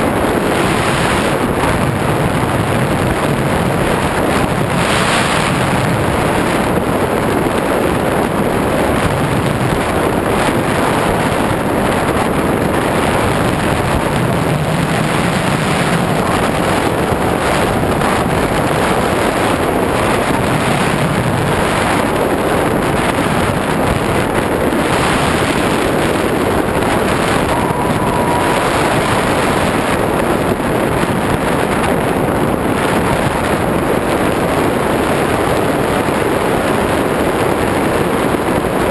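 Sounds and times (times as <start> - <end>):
air rushing over microphone: 0.0 - 38.9
propeller drone: 0.0 - 38.9.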